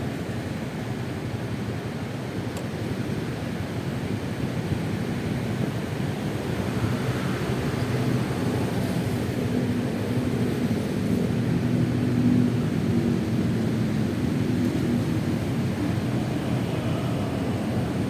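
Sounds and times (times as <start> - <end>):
road noise: 0.2 - 18.0.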